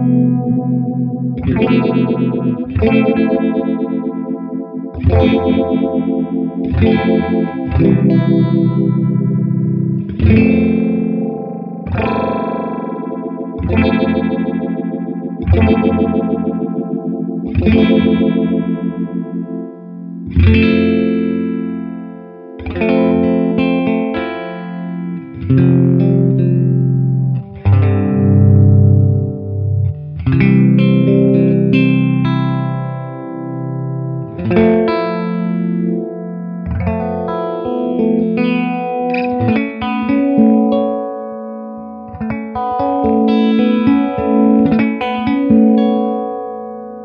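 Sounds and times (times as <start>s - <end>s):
electric guitar strumming chords: 0.0s - 47.0s.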